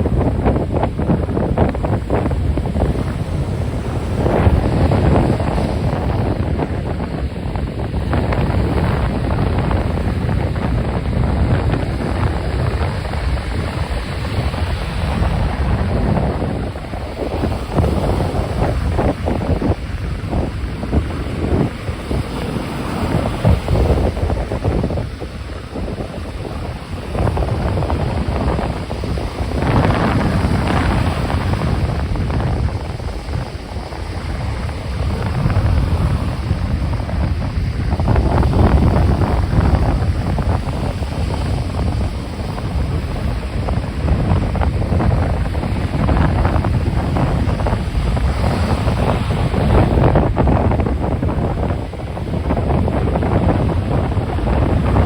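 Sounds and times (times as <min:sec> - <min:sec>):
ocean waves washing: 0:00.0 - 0:55.0
wind buffeting microphone: 0:00.0 - 0:55.0.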